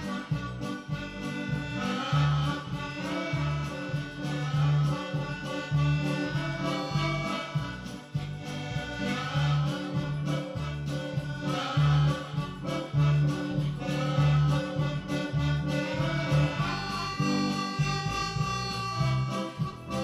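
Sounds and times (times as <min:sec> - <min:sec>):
background music with bass line: 0:00.0 - 0:20.0.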